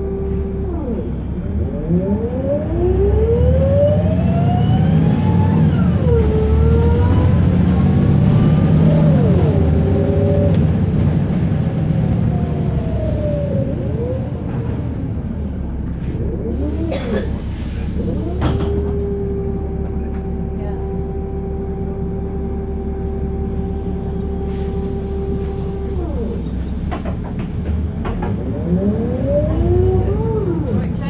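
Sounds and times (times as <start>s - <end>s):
bus engine accelerating: 0.0s - 31.0s.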